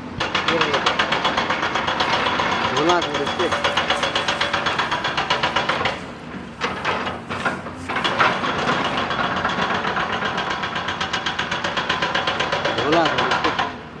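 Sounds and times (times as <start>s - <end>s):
excavator diesel engine: 0.0s - 14.0s
hydraulic breaker hammering rock: 0.0s - 14.0s.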